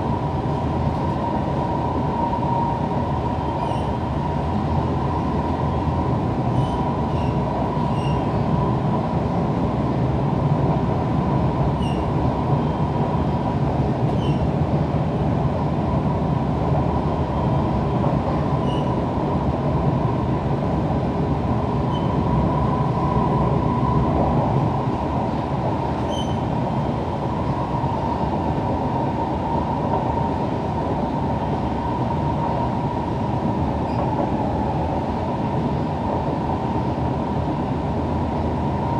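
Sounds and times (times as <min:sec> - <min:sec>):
constant high hum: 0:00.0 - 0:38.9.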